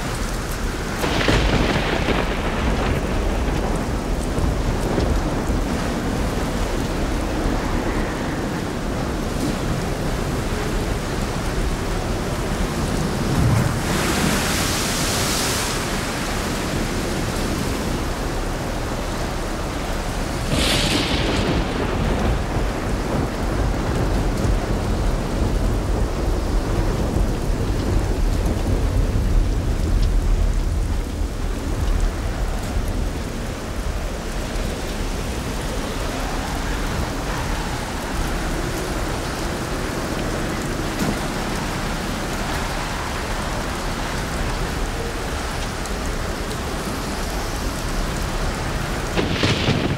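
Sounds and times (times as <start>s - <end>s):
steady rain: 0.0s - 49.9s
thunder crack and rumble: 0.0s - 49.9s.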